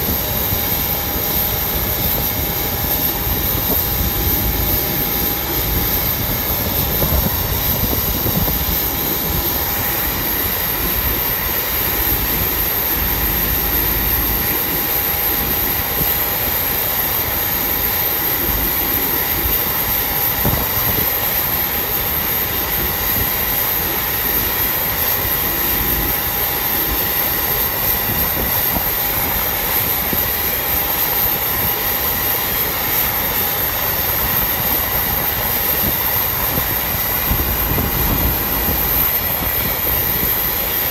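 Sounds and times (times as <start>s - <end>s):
jet aircraft rumble and whine: 0.0s - 40.9s.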